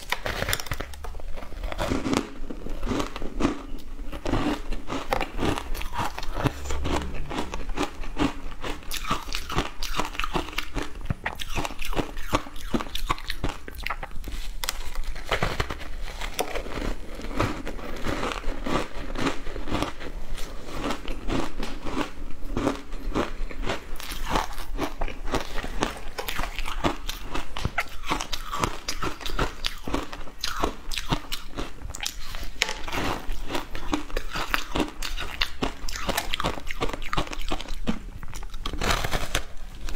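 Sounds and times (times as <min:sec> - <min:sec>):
crunchy ice chewing: 0:00.0 - 0:39.9.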